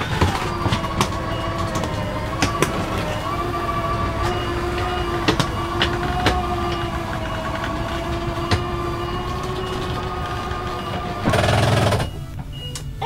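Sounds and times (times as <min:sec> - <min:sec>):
motor whine: 0:00.0 - 0:12.4
engine idling rumble: 0:00.0 - 0:13.0.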